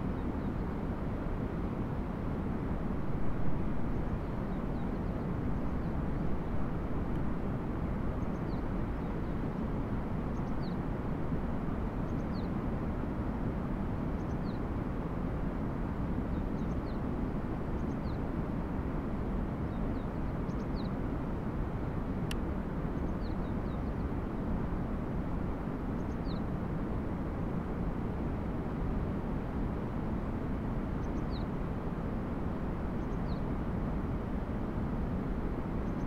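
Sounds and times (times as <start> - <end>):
low rushing outdoor noise: 0.0 - 36.0.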